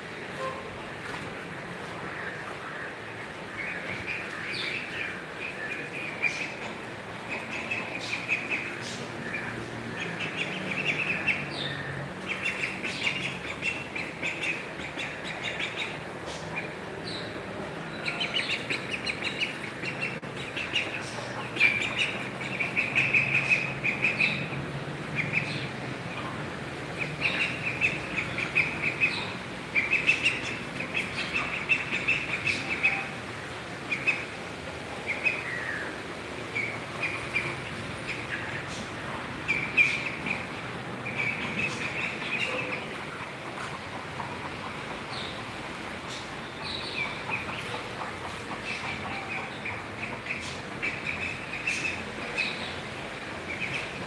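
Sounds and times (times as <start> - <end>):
outdoor background noise: 0.0 - 54.0
birds chirping: 2.2 - 54.0.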